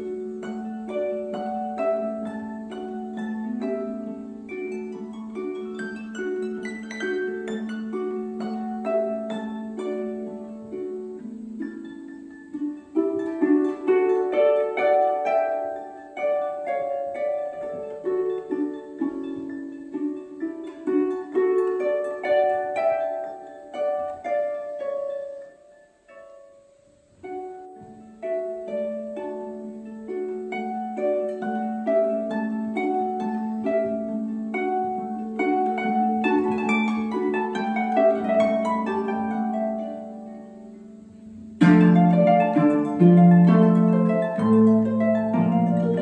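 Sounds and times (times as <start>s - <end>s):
harp playing: 0.0s - 46.0s.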